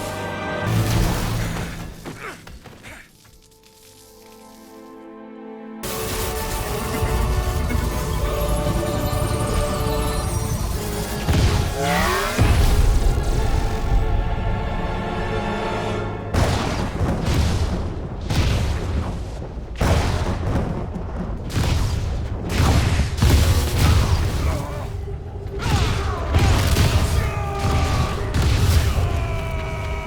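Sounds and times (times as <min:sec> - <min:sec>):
dramatic music: 0:00.0 - 0:18.8, 0:22.6 - 0:30.0.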